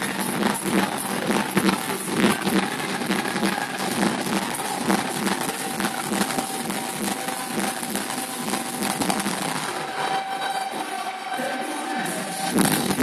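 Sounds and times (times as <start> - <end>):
loud dance music: 0.0 - 13.0.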